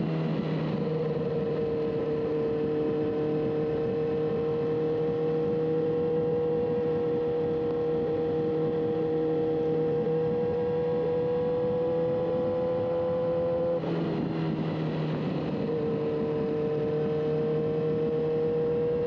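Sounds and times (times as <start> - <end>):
motorcycle engine droning: 0.0 - 19.0
road and wind noise: 0.0 - 19.0.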